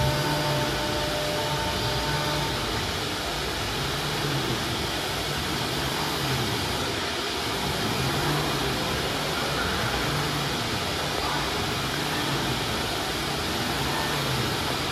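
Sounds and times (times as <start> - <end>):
low motor hum: 0.0 - 14.9.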